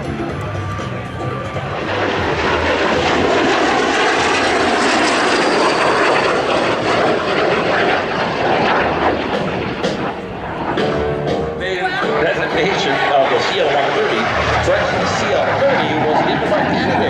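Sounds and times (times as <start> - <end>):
jet flying past: 0.0 - 17.0.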